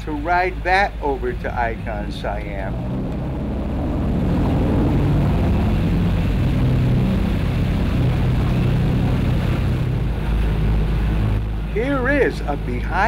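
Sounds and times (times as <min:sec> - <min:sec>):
boat engines droning: 0:00.0 - 0:13.0
water rushing: 0:00.2 - 0:13.0.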